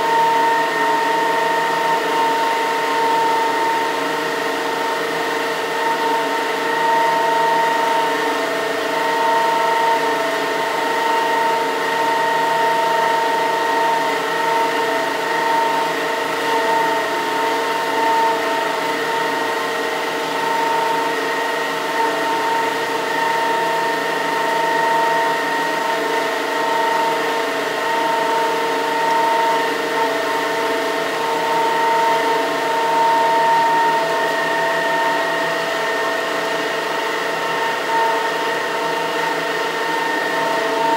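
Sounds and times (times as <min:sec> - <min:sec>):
turbine generator whine: 0:00.0 - 0:40.9.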